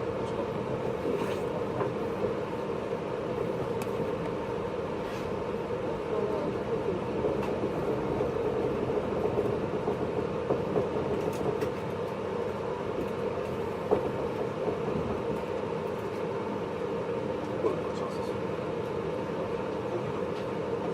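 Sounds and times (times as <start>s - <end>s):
train interior hum and rumble: 0.0s - 20.9s.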